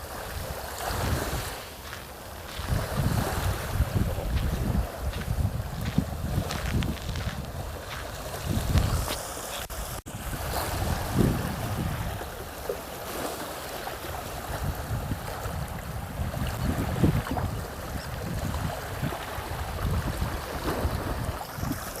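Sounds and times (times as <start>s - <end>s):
sea waves: 0.0s - 22.0s
wind gusting against microphone: 0.0s - 22.0s.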